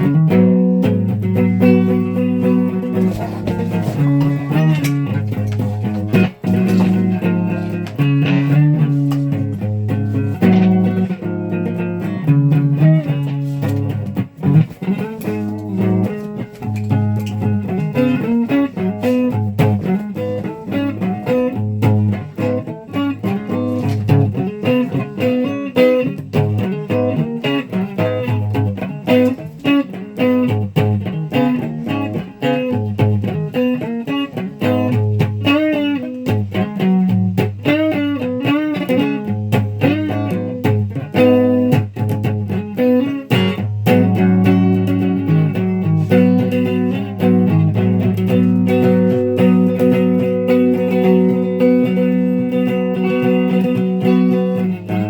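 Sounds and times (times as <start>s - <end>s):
guitar plucked single notes: 0.0s - 55.0s.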